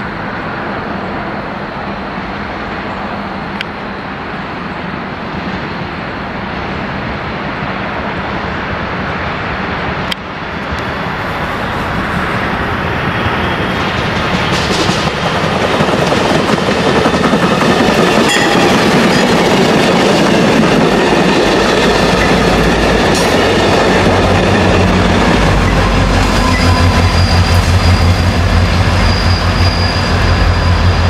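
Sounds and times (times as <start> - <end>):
train rumbling on tracks: 0.0 - 31.0.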